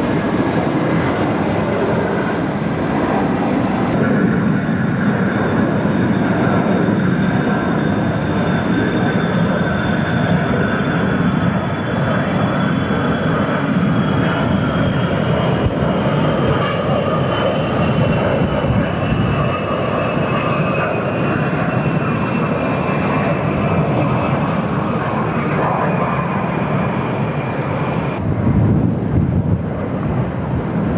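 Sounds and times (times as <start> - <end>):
jet engine high whine: 0.0 - 30.9
jet engines rumbling: 0.0 - 30.9.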